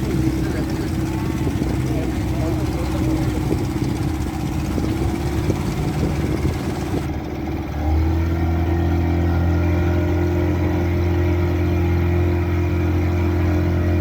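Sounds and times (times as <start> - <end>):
speedboat engine running: 0.0 - 14.0.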